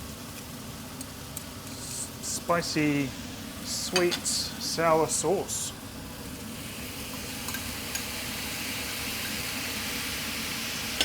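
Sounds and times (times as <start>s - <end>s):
sauce sizzling in a pan: 0.0s - 11.0s.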